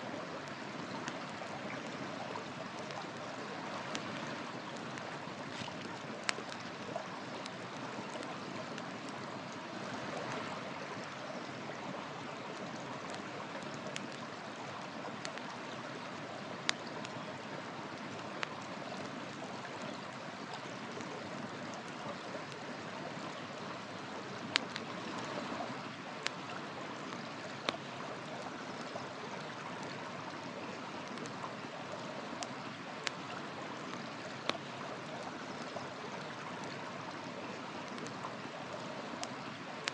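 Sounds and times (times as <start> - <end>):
river flowing: 0.0 - 39.9
wood fire crackling: 0.3 - 11.9, 12.5 - 23.7, 24.4 - 34.8.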